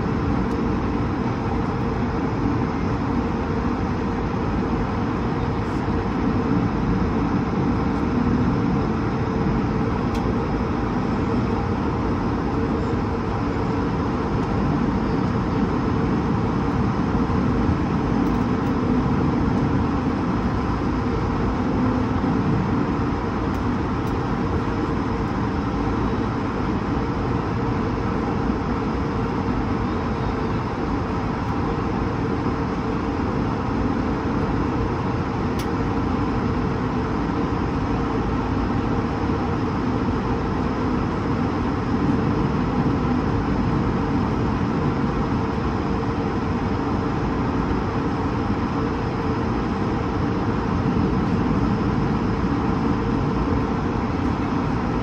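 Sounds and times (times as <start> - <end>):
airflow rush in aircraft cabin: 0.0 - 55.0
jet engine drone: 0.0 - 55.0.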